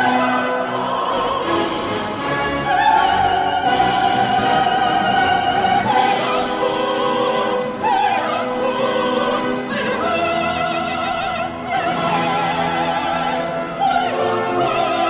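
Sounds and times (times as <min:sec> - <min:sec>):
operatic singing with orchestra: 0:00.0 - 0:15.0.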